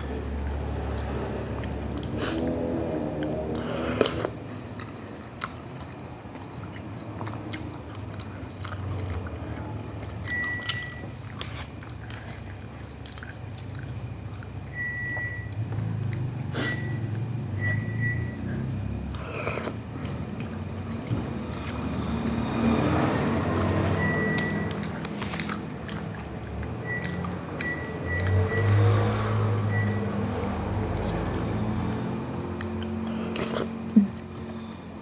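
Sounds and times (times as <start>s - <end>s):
chewing and biting noodles: 0.0s - 35.0s
low steady hum: 0.0s - 35.0s.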